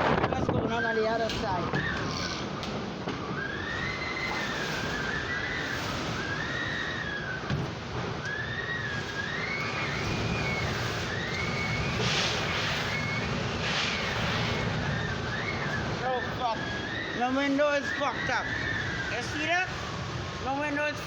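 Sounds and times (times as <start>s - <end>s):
hissing wind gusts: 0.0s - 21.0s
strong wind with whistle: 0.0s - 21.0s.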